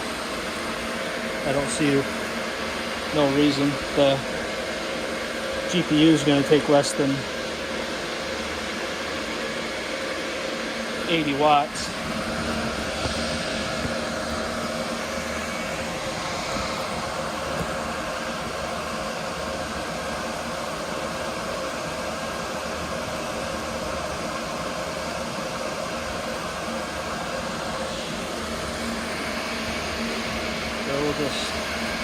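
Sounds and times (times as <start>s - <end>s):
cooling fans whirring: 0.0s - 32.0s
faint hum tones: 0.0s - 32.0s.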